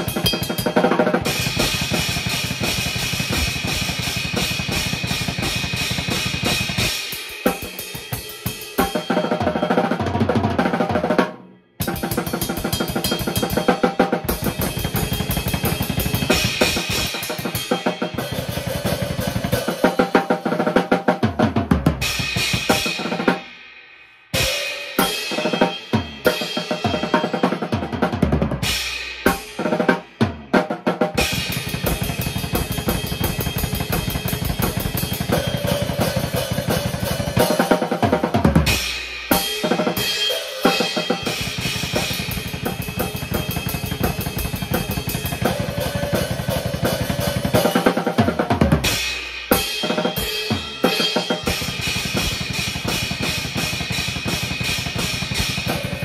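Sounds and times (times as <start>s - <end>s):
drum kit playing: 0.0s - 56.0s.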